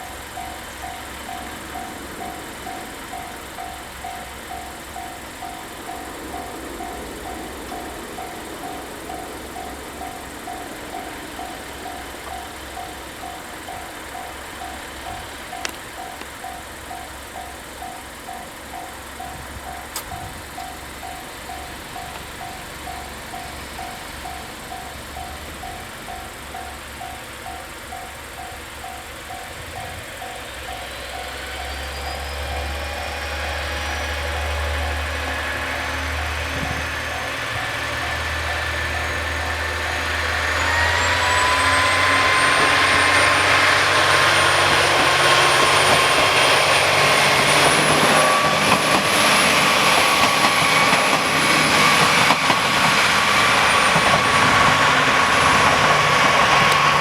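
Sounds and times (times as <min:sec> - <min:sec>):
diesel railcar engine whine: 0:00.0 - 0:57.0
level-crossing alarm beeping: 0:00.0 - 0:57.0.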